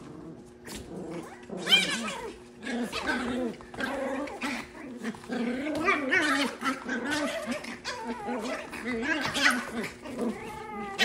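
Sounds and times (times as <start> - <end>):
puppies growling yipping and whining: 0.0 - 11.0.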